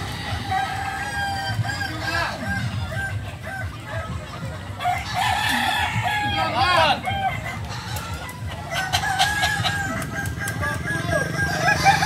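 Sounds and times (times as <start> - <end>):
roosters crowing: 0.0 - 12.0.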